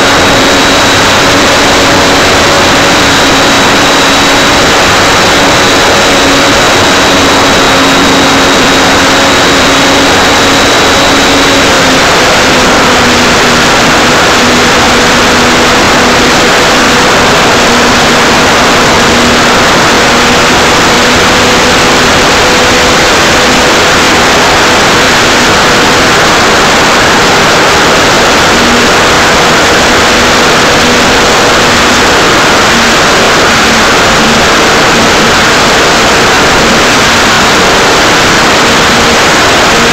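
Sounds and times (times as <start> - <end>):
electric motor whine: 0.0 - 39.9
rushing wind noise: 0.0 - 39.9.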